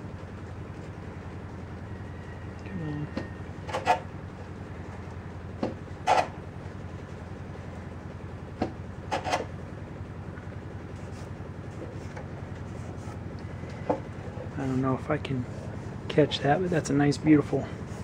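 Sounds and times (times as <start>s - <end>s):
pool cleaner humming: 0.0s - 18.0s.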